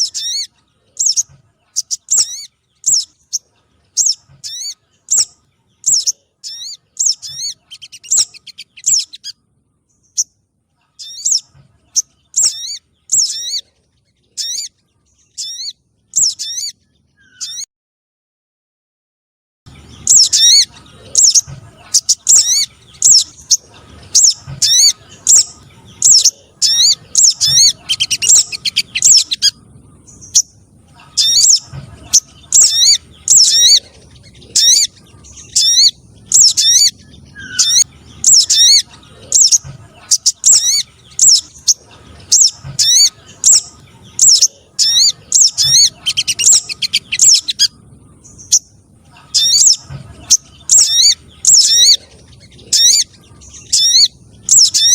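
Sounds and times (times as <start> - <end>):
recorded bird calls: 0.0 - 17.7, 19.7 - 54.9
small birds calling: 0.0 - 17.7, 19.7 - 54.9.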